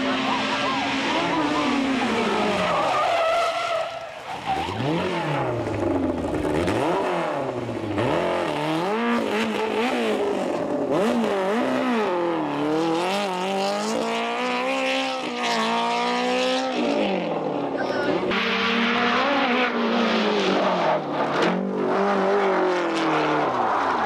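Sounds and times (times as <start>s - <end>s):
tyres skidding: 0.0s - 13.4s, 17.0s - 24.0s
race car engine revving: 0.0s - 24.0s.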